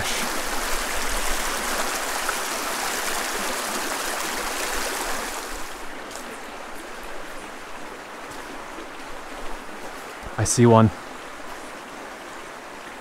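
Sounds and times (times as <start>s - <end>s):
creek water rushing over stones: 0.0s - 13.0s.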